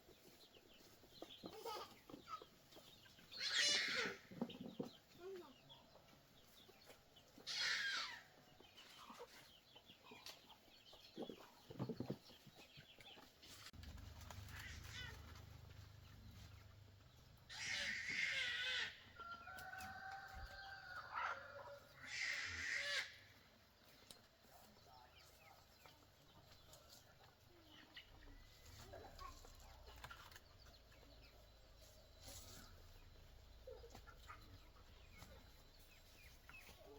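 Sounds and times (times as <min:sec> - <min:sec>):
chickens calling: 0:00.0 - 0:36.9
faint farmyard sound: 0:00.0 - 0:36.9.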